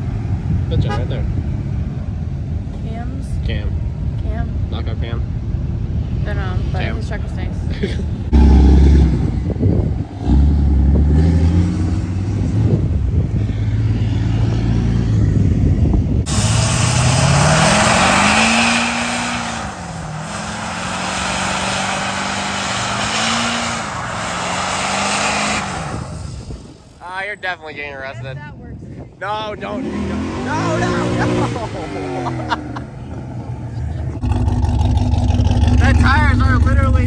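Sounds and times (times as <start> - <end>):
diesel truck engines revving: 0.0 - 37.0.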